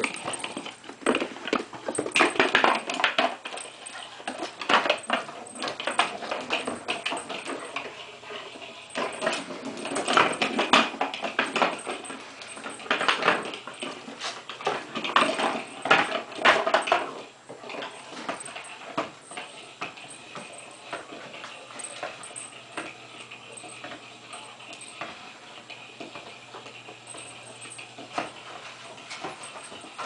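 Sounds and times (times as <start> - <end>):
dog claws clattering on wooden floor: 0.0 - 30.0.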